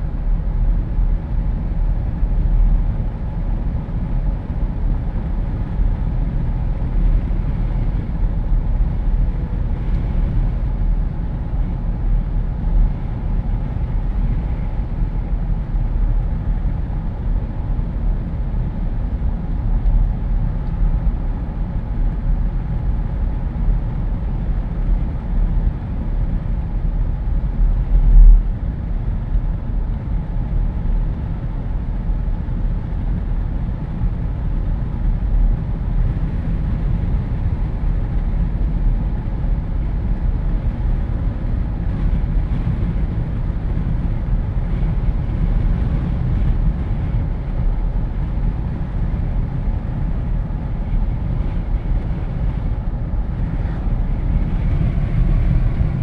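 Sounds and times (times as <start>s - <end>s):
road noise: 0.0s - 56.0s
wind buffeting through car cabin: 0.0s - 56.0s.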